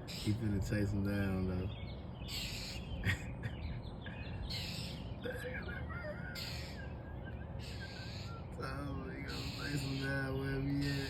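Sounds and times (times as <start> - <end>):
bird harsh raspy calls: 0.0 - 11.0
thin wavering bird chirps: 0.0 - 11.0.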